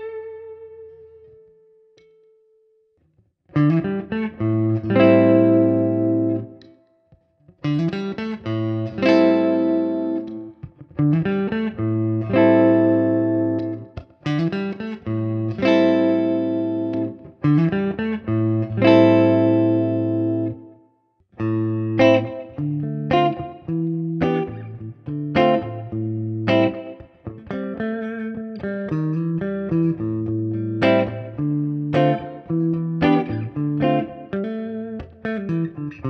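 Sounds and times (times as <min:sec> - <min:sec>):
clean electric guitar chords: 0:03.6 - 0:20.8, 0:21.4 - 0:36.0.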